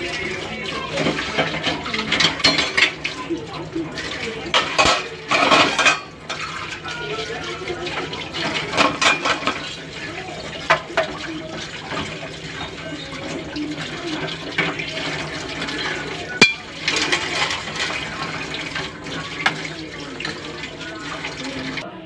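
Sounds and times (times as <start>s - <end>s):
curry bubbling and crackling: 0.0s - 21.8s.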